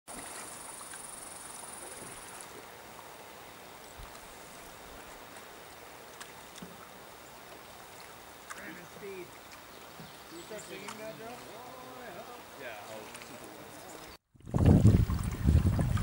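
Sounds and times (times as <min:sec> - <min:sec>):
light wind and water hiss: 0:00.1 - 0:16.0.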